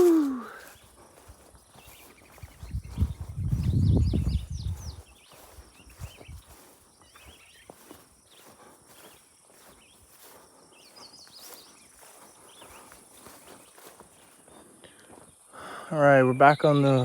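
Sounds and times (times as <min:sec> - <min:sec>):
footsteps on trail: 0:00.0 - 0:15.8
insect drone: 0:00.0 - 0:16.8.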